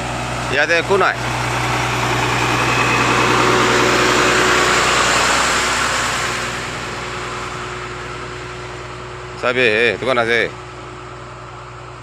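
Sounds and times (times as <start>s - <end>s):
low engine hum: 0.0s - 12.0s
vehicle passing on road: 0.0s - 12.0s.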